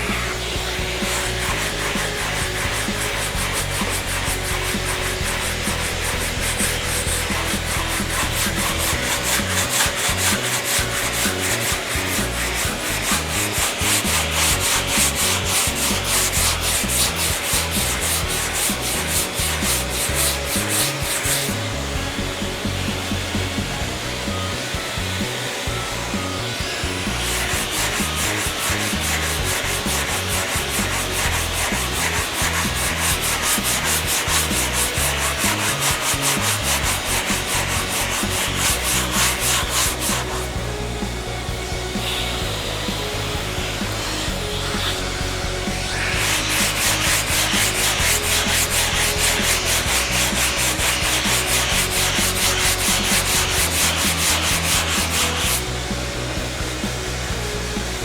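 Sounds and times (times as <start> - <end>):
hand sanding strokes: 0.0 - 58.0.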